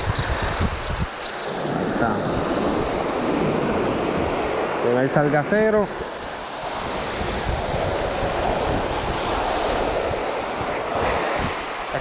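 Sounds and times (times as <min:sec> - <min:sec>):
small waves breaking on beach: 0:00.0 - 0:12.0
wind buffeting microphone: 0:00.0 - 0:12.0.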